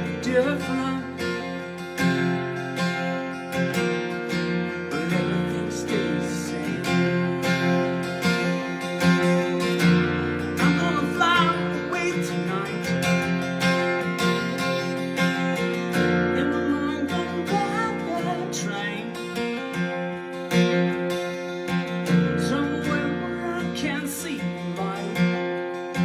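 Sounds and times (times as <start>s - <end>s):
man singing: 0.0s - 3.2s, 4.7s - 19.8s, 22.0s - 26.0s
acoustic guitar strumming: 0.0s - 26.0s.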